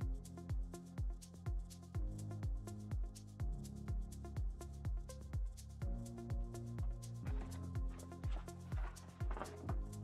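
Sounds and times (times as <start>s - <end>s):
electronic music: 0.0s - 10.0s
steady kick drum: 0.0s - 10.0s.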